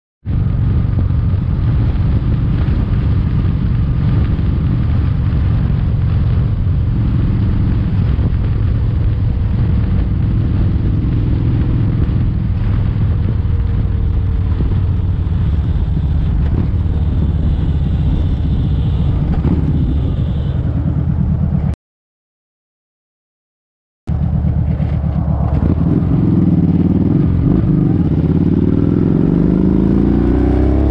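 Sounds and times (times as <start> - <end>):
wind noise: 0.2 - 21.7, 24.1 - 30.9
road noise: 0.2 - 21.8, 24.1 - 30.9
motorcycle engine cruising: 0.3 - 21.8, 24.1 - 30.9.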